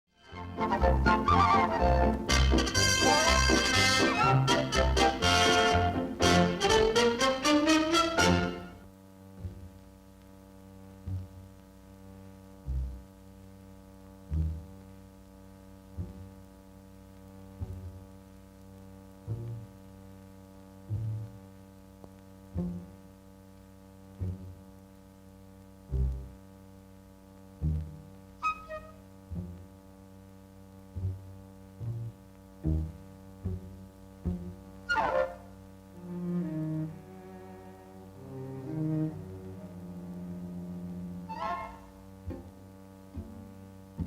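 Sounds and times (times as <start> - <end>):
droning hum with low throb: 8.2 - 44.0.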